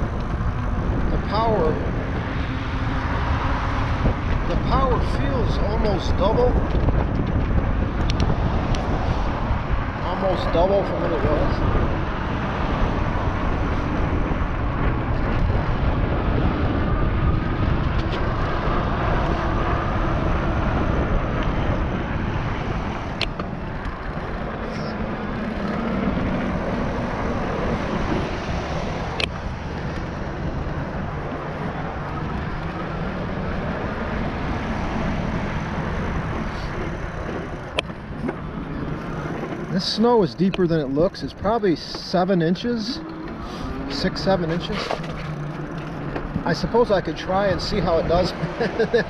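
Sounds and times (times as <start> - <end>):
electric bike rolling on trail: 0.0 - 49.0
wind rush on microphone: 0.0 - 49.0.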